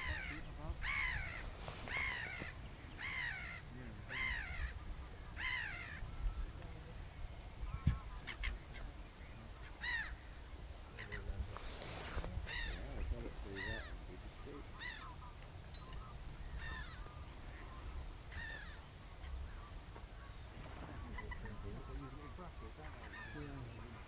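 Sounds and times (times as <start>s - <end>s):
bird calling loudly: 0.0s - 6.6s, 7.7s - 11.4s, 12.1s - 24.0s
short bird calls: 0.0s - 6.6s, 7.7s - 24.0s.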